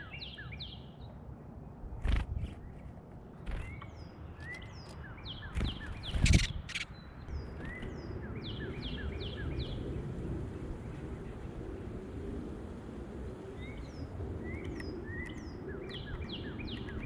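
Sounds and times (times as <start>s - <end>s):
songbirds chirping: 0.0s - 10.2s, 13.5s - 17.0s.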